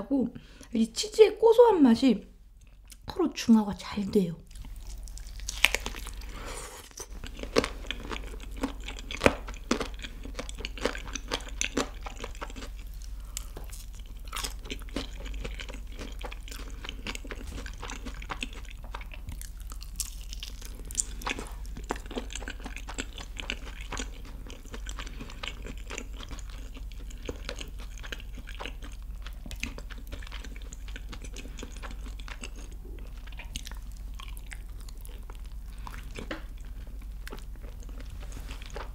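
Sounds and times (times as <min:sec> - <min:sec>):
crunching fried chicken: 0:04.5 - 0:38.9
wet chewing: 0:04.5 - 0:38.9.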